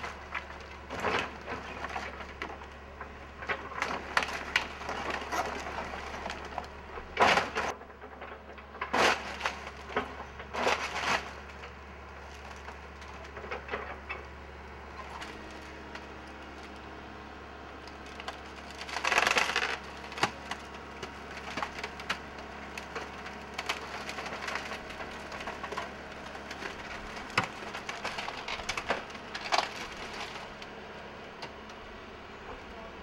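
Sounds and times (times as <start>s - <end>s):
wood splintering and cracking: 0.0s - 32.8s.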